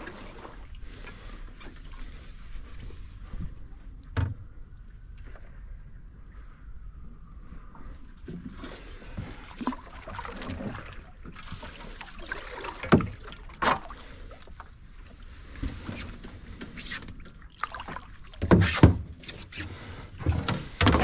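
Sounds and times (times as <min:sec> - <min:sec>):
paddle splashing water: 0:00.0 - 0:03.8, 0:07.8 - 0:21.0.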